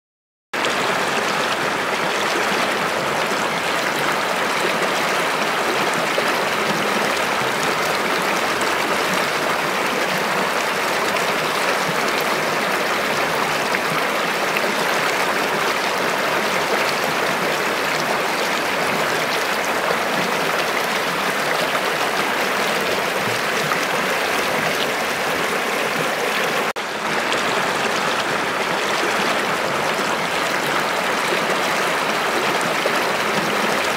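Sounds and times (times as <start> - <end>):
water rushing over rocks: 0.6 - 33.9.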